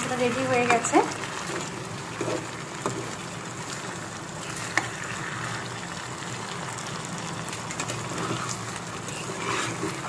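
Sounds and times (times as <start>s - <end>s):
curry bubbling in a pan: 0.0s - 10.0s.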